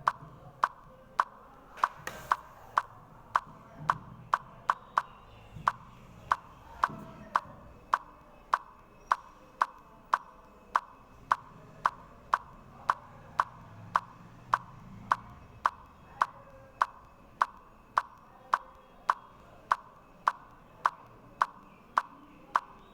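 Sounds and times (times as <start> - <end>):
sharp high ticking clicks: 0.0 - 22.9.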